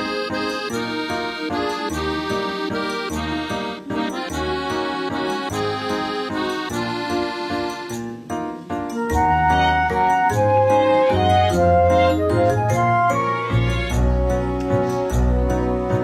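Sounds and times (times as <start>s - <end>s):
instrumental chords and bass: 0.0s - 16.0s.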